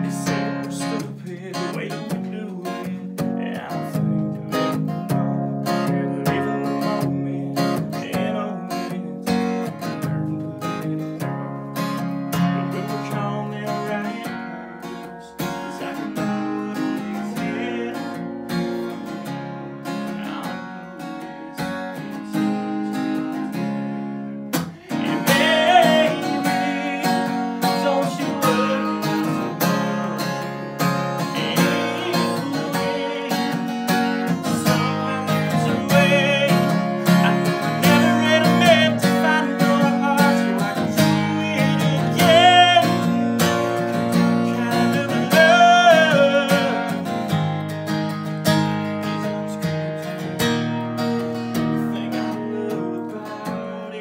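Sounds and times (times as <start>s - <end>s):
man singing: 0.0s - 47.2s, 49.0s - 50.4s, 51.0s - 54.0s
acoustic guitar strumming: 0.0s - 54.0s.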